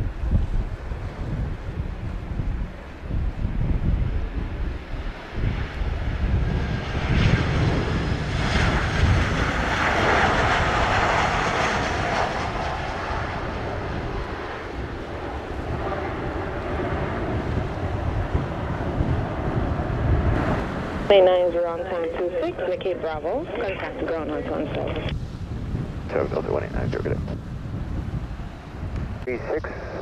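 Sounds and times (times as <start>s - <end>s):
jet airliner engines rushing: 0.0s - 30.0s
wind buffeting microphone: 0.0s - 30.0s.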